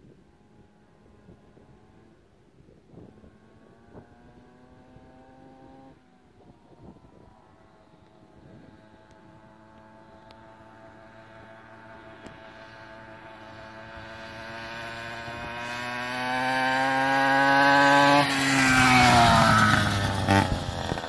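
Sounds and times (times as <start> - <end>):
small two-stroke engine revving: 2.9 - 21.0.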